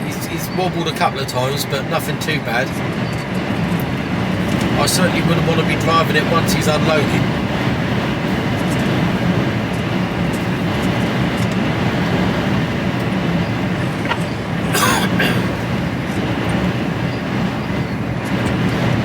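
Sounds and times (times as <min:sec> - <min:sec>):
lorry engine and road rumble: 0:00.0 - 0:19.0
wind buffeting cab: 0:00.0 - 0:19.0.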